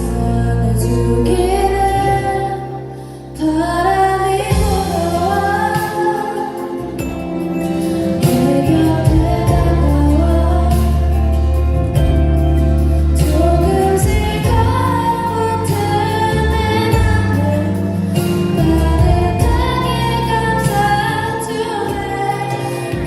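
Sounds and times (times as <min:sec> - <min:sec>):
instrumental accompaniment: 0:04.3 - 0:23.0.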